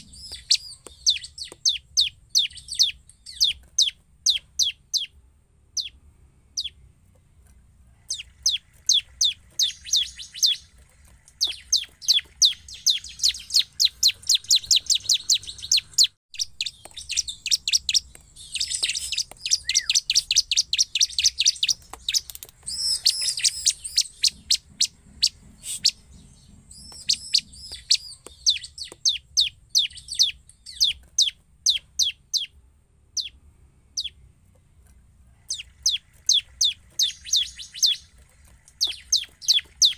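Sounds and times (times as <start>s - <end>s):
bird singing high chirps: 0.0s - 6.8s, 8.0s - 34.2s, 35.4s - 39.9s.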